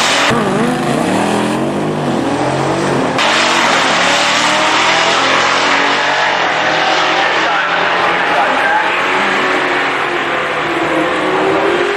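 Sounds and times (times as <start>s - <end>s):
drag racing engines revving: 0.0s - 11.9s.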